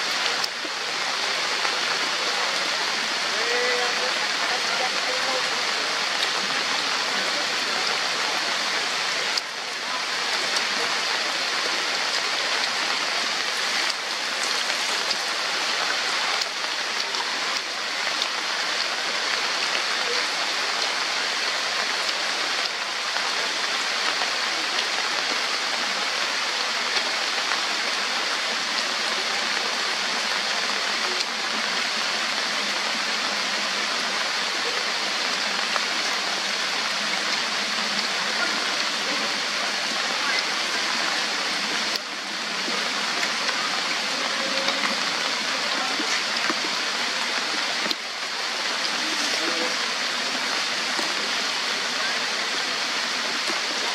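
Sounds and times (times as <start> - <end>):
heavy rain on foliage: 0.0 - 53.9.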